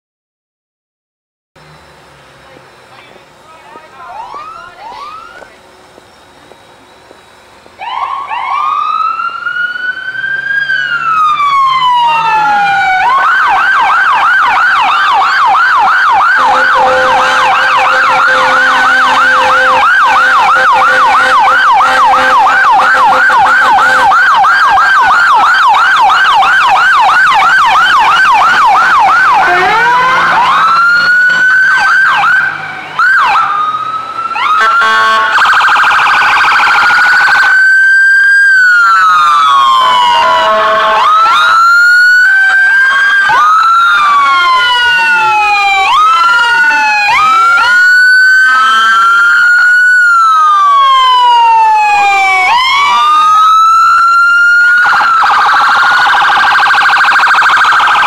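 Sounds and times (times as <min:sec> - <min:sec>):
police sirens: 0:01.6 - 0:58.0.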